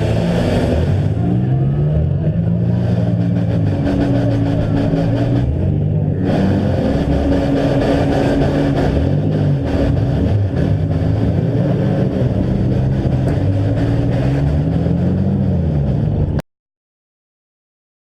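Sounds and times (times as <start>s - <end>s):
engines revving: 0.0s - 16.4s.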